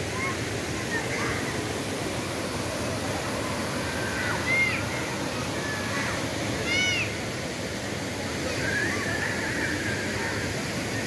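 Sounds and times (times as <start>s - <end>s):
water rushing from a cascade: 0.0s - 11.0s.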